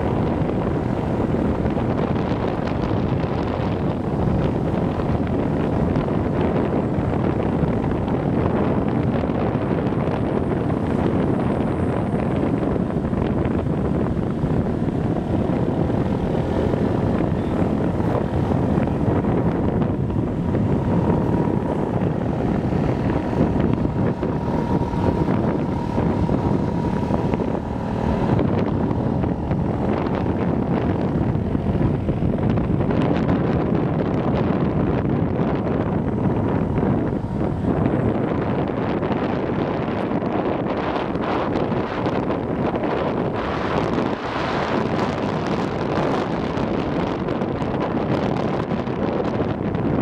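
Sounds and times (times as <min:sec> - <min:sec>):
motorbike engine running: 0:00.0 - 0:49.6
wind buffeting microphone: 0:00.0 - 0:50.0.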